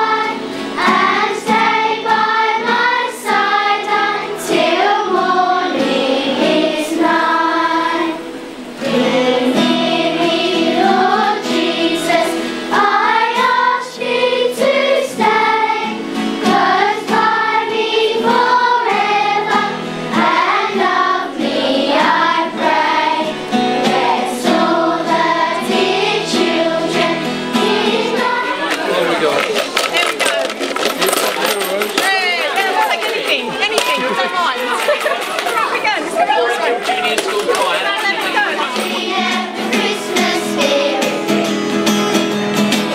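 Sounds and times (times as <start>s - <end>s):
children's choir singing a carol: 0.0s - 29.3s, 32.4s - 41.8s.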